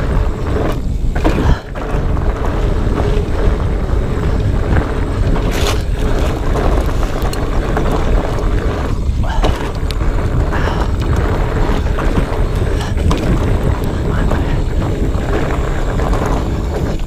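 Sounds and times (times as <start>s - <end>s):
bike rattling over rocks: 0.0s - 17.0s
wind and tyre rumble: 0.0s - 17.0s.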